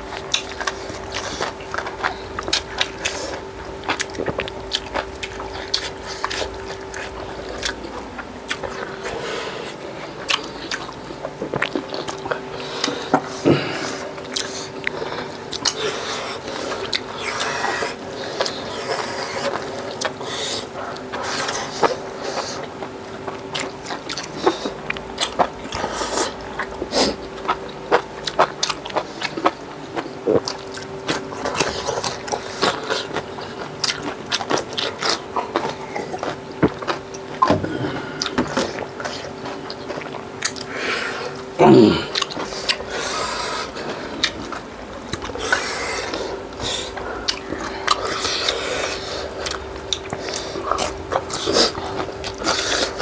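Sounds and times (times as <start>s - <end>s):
chewing and crunching food: 0.0s - 53.0s
faint steady hum: 0.0s - 53.0s.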